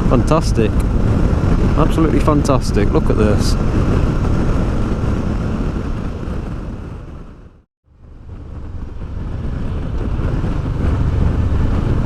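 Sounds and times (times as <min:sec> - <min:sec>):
road and engine rumble: 0:00.0 - 0:12.0
wind buffeting microphone: 0:00.0 - 0:12.0.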